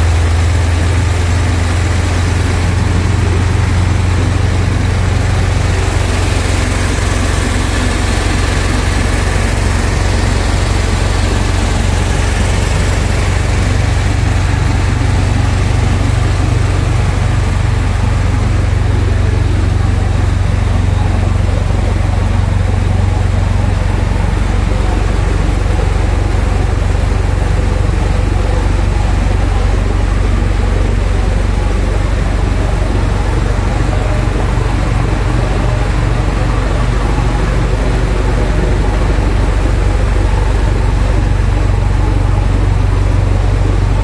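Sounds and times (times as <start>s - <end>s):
diesel vacuum pump running: 0.0s - 44.0s.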